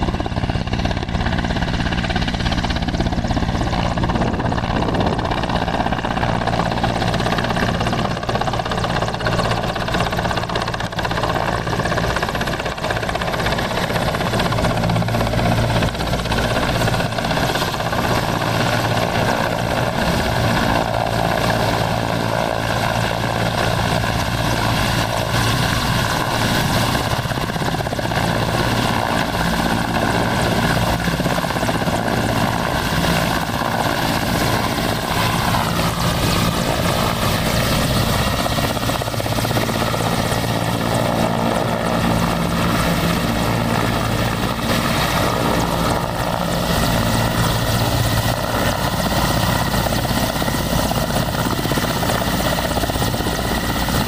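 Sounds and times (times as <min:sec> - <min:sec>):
helicopter rotor beating: 0:00.0 - 0:54.0.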